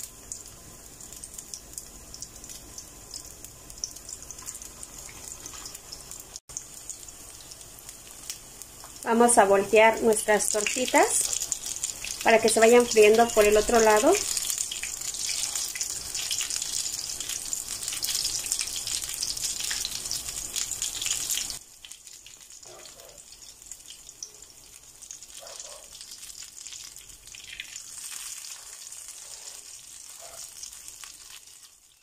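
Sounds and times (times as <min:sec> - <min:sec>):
patties sizzling in hot oil: 0:00.0 - 0:32.0.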